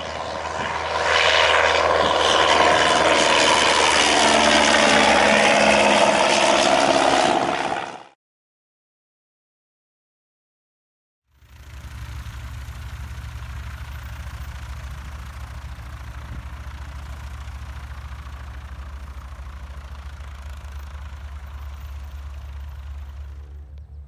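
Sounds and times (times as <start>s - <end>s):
propeller aircraft engine drone: 0.0s - 8.2s, 11.3s - 24.0s.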